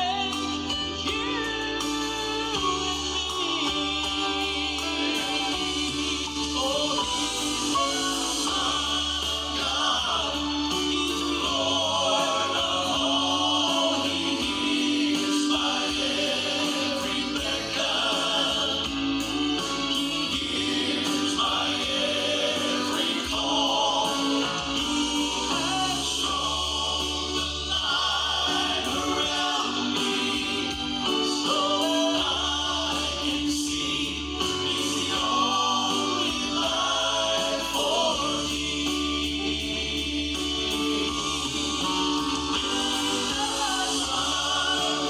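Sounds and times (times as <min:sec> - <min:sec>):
voices singing a gospel song: 0:00.0 - 0:45.0.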